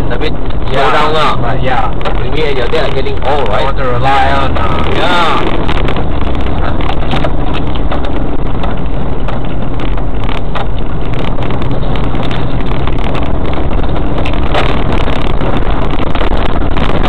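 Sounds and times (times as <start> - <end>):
car engine and road noise: 0.0 - 17.0
knocks and rattles: 1.7 - 17.0.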